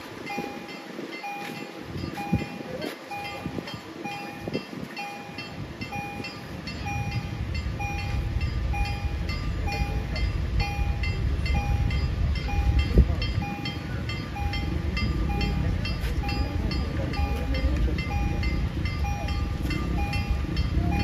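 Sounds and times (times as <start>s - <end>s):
passing train rumble: 0.0s - 21.0s
level crossing warning beeps: 0.1s - 21.0s.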